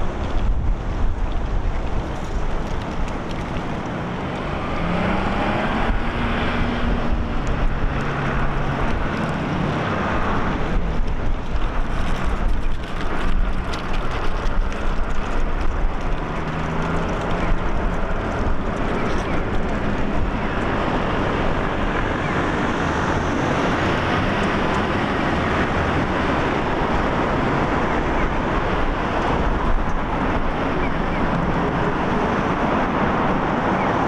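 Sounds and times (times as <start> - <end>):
vehicle engines humming past: 0.0 - 34.0
wind buffeting microphone: 0.0 - 34.0.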